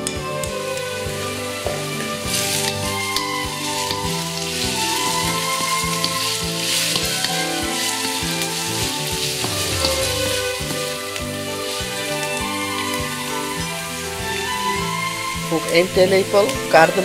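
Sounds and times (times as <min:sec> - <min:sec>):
background music: 0:00.0 - 0:17.0
onion sizzling in hot oil: 0:00.0 - 0:17.0
spatula scraping a wok: 0:01.2 - 0:15.4.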